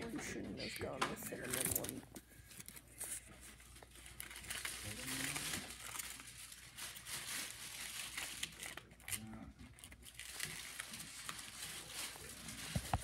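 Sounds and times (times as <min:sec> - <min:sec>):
paper sleeve crinkling: 0:01.2 - 0:13.0.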